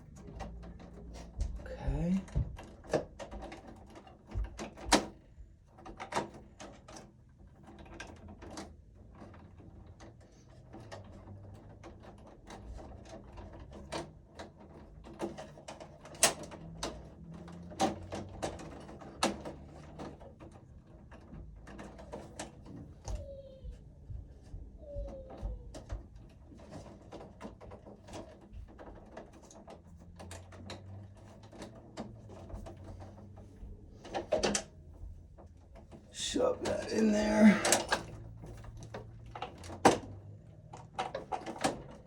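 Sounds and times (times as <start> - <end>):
metal clicks and knocks: 0.0 - 23.3, 25.1 - 42.0.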